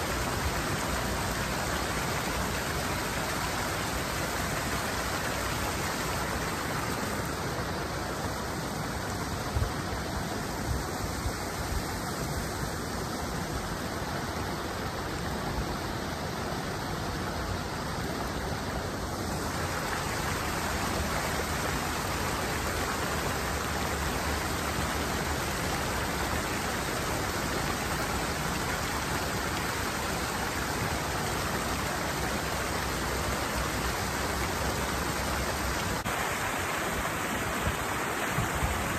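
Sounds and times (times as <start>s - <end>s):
water pouring over waterfall: 0.0s - 15.4s, 16.1s - 38.9s.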